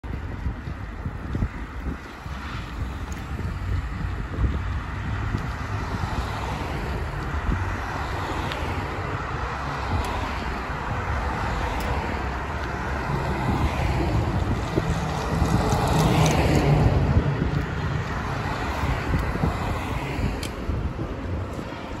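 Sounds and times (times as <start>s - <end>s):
cars passing on city street: 0.0s - 22.0s
wind rumble on microphone: 0.0s - 22.0s.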